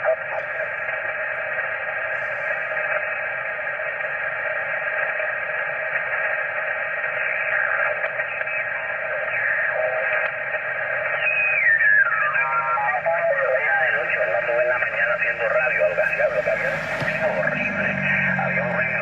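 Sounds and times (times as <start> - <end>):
faint steady tones: 0.0 - 19.0
radio static and hiss: 0.0 - 19.0.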